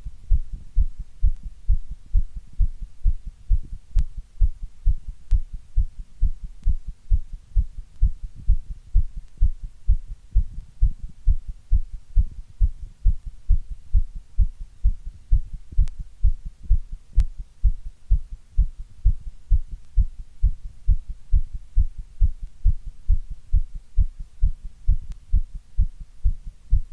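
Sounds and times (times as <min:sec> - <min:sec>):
heartbeat: 0:00.0 - 0:26.9.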